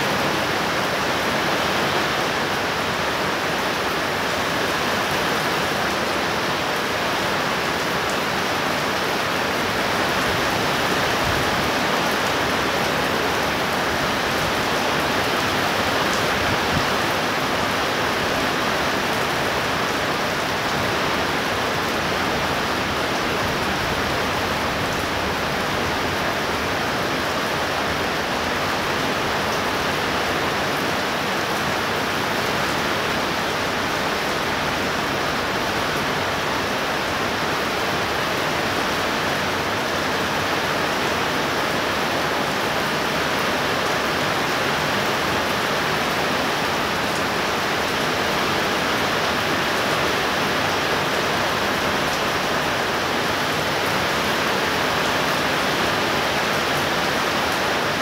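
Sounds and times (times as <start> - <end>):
steady rain pouring: 0.0 - 58.0.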